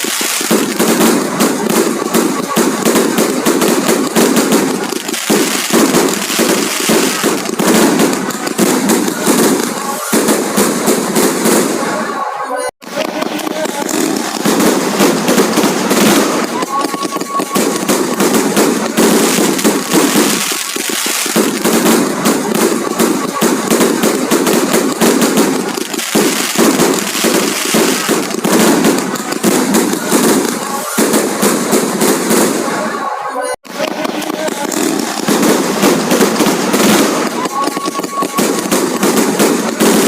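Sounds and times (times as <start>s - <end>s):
fireworks crackling bangs: 0.0s - 40.0s.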